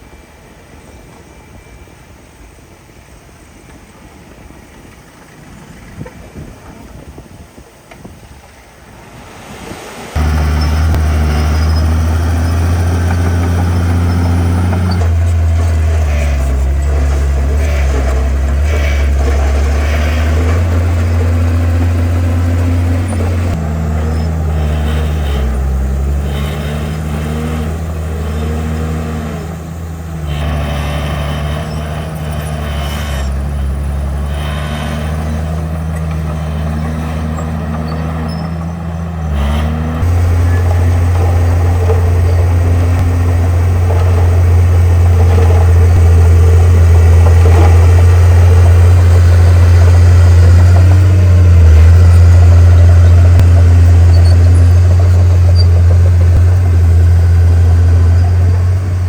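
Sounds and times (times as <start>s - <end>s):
heavy diesel machinery working: 9.8s - 59.0s.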